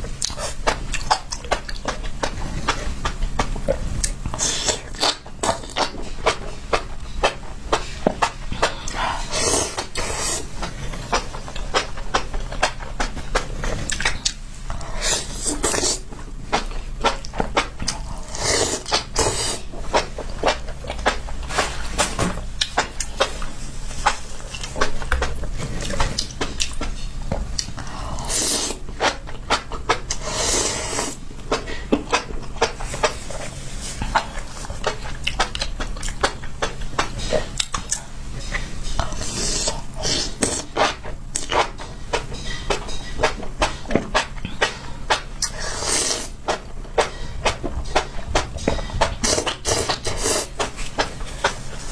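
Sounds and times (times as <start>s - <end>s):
chewing mushrooms: 0.1s - 51.9s.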